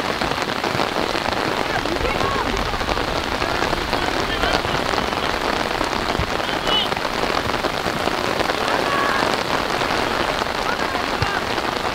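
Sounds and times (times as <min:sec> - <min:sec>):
rain pattering: 0:00.0 - 0:11.9
distant voices calling: 0:00.6 - 0:11.9.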